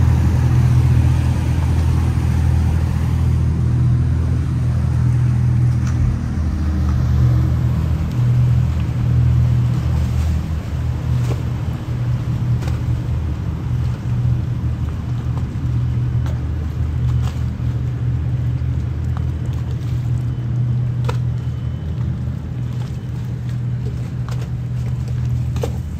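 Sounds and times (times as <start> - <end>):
boat diesel engine droning: 0.0 - 25.9.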